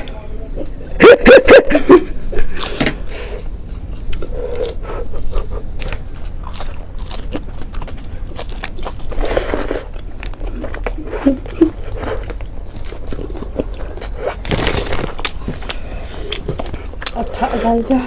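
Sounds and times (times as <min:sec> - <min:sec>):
person chewing and biting: 0:02.4 - 0:17.4.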